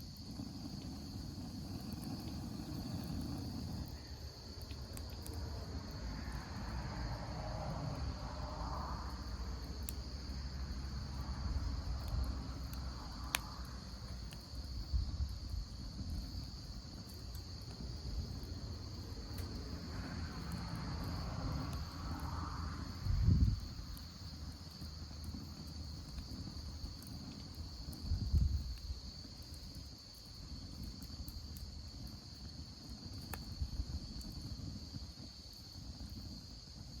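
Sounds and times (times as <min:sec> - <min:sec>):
campfire popping: 0:00.0 - 0:37.0
crickets chirping: 0:00.0 - 0:37.0.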